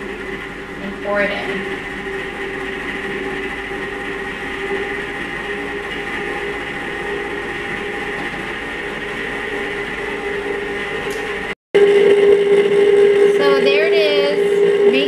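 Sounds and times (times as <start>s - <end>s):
ice cream maker motor humming: 0.0s - 15.0s.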